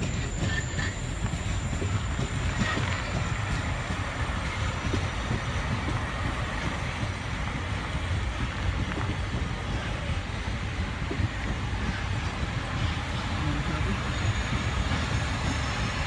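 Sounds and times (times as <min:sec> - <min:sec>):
electric train running past: 0:00.0 - 0:16.0.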